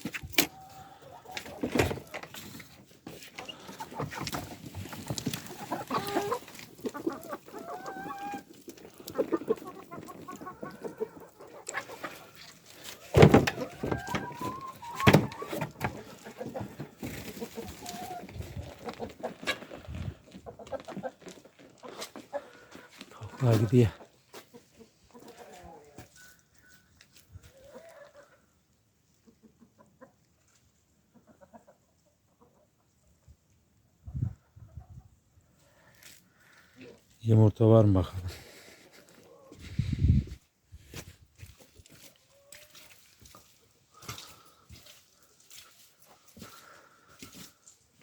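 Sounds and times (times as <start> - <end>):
chickens clucking: 0.0 - 35.8, 38.8 - 40.4, 42.0 - 48.0.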